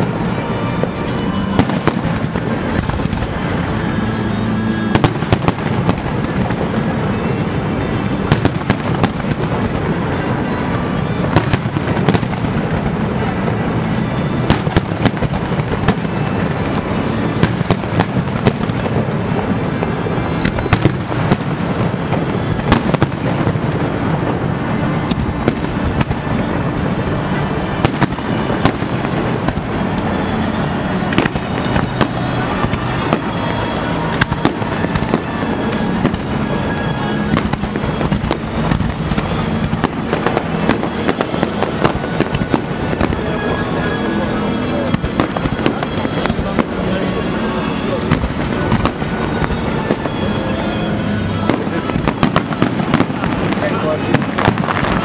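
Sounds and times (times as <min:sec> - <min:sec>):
fireworks bursting: 0:00.0 - 0:55.0
music playing: 0:00.0 - 0:55.0.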